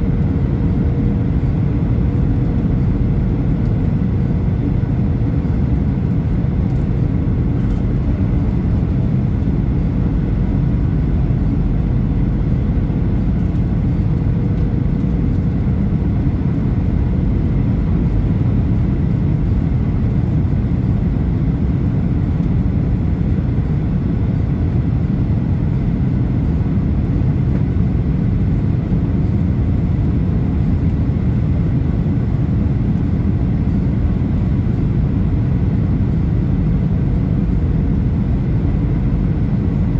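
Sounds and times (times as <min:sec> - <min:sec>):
deep rumble of jet engines: 0:00.0 - 0:39.9
faint steady whine: 0:00.0 - 0:39.9.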